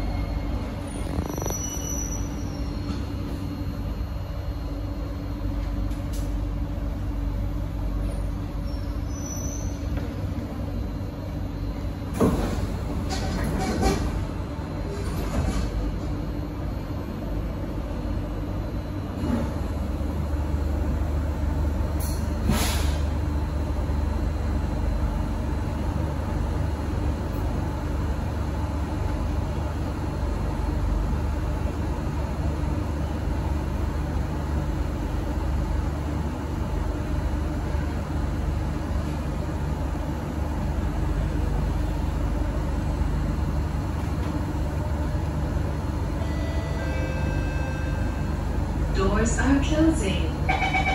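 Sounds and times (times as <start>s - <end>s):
train equipment humming: 0.0s - 50.9s.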